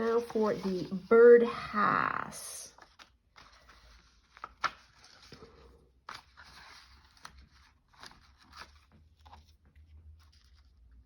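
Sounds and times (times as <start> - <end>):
paper rustling: 0.0 - 1.1, 2.8 - 11.0.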